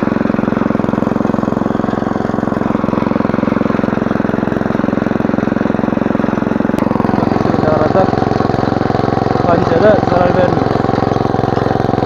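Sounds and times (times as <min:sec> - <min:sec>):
small tiller engine running: 0:00.0 - 0:12.0.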